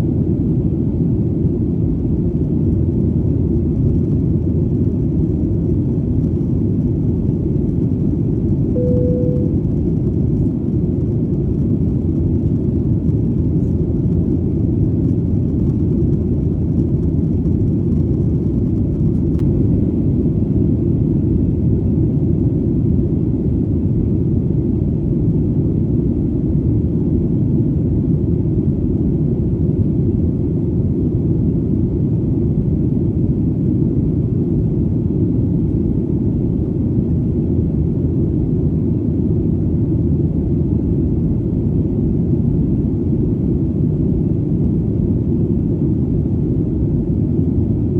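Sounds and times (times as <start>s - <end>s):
airplane engine rumble: 0.0s - 47.9s.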